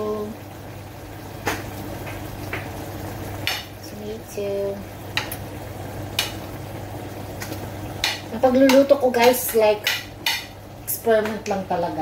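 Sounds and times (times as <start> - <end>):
low frying sizzle: 0.0 - 12.0.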